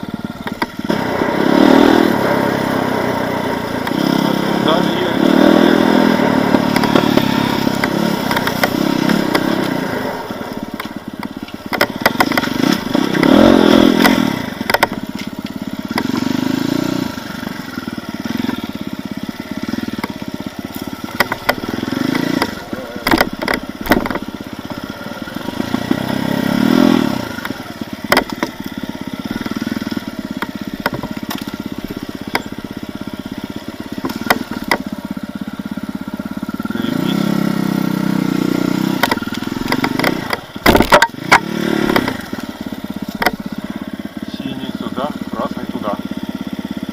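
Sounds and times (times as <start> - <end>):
knocks and clatter from bike: 0.0 - 1.0, 3.6 - 4.9, 5.6 - 16.6, 17.2 - 37.2, 38.8 - 44.2
motorcycle engine revving: 0.0 - 46.9.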